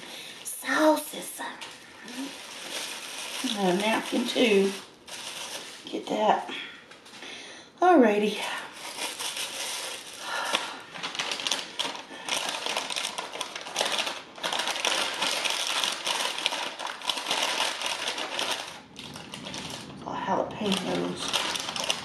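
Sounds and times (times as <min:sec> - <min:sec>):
paper bag rustling: 0:01.5 - 0:06.0, 0:08.6 - 0:22.0.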